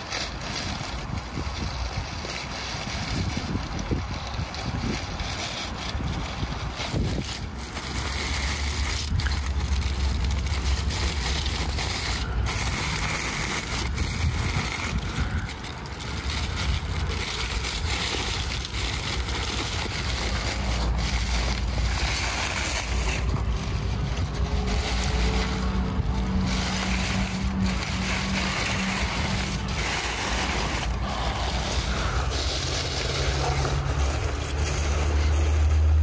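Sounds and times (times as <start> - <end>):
aluminium foil and paper crinkling: 0.0 - 36.0.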